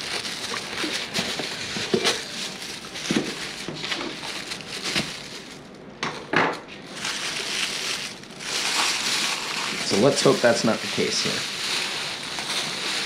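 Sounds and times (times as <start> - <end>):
plastic bag crinkling: 0.0 - 5.8, 6.8 - 13.0.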